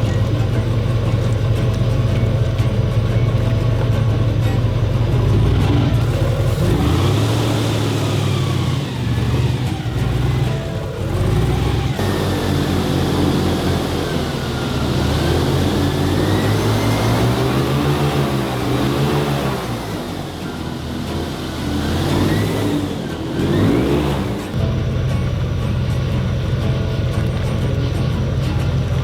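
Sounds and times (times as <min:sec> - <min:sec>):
airboat engine and propeller: 0:00.0 - 0:29.0.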